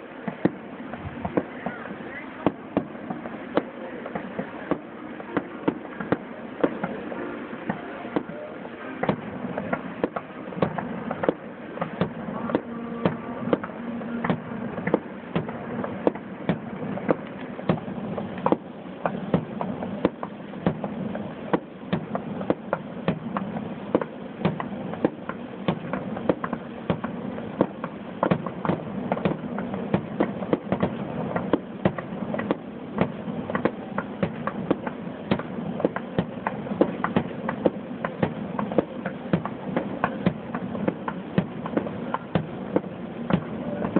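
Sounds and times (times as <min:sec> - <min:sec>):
fireworks crackling: 0:00.0 - 0:43.9.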